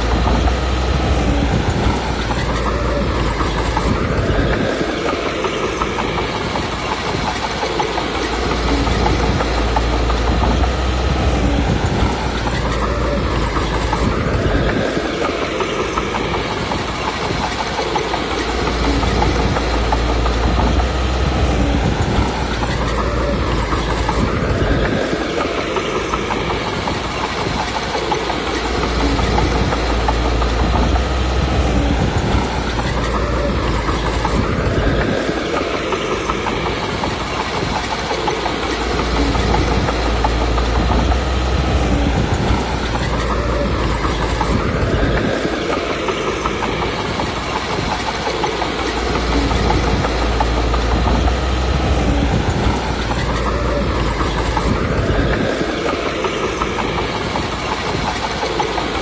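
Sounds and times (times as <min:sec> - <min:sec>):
bulldozer diesel engine under load: 0:00.0 - 0:59.0
clattering steel tracks: 0:00.0 - 0:59.0.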